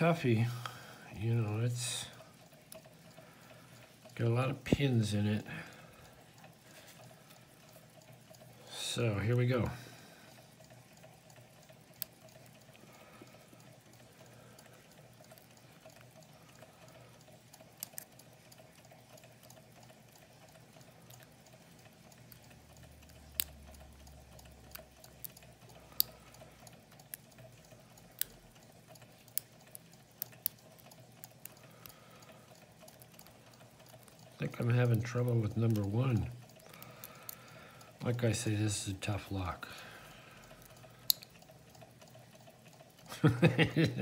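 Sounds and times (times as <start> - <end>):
faint stirling engine running: 0.0 - 43.1.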